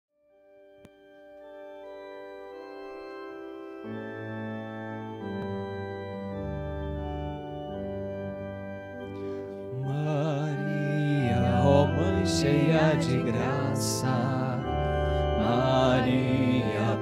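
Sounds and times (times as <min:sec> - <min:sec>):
organ playing sustained chords: 0:00.3 - 0:17.0.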